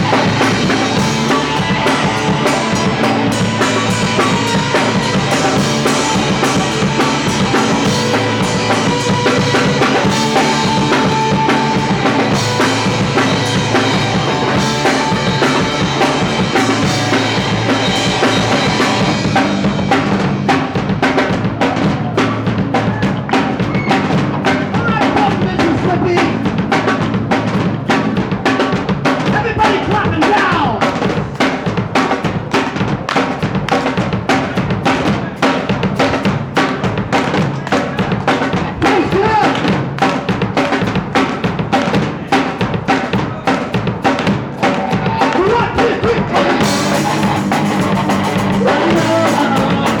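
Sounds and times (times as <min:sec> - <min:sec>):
loud drum kit beating: 0:00.0 - 0:50.0
punk rock band playing live: 0:00.0 - 0:50.0.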